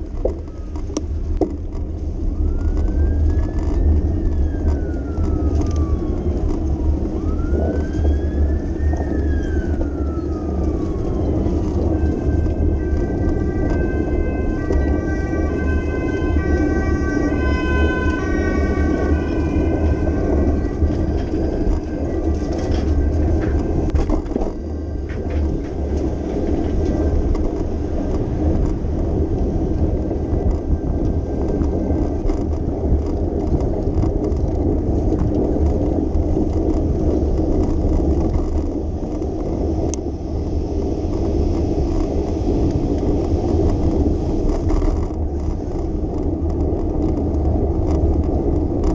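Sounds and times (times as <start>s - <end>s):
traffic rumble: 0.0s - 48.9s.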